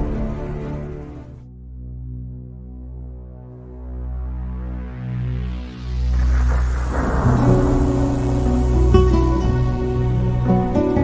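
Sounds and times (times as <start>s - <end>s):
background music: 0.0s - 11.0s
low sustained drone: 1.7s - 10.9s.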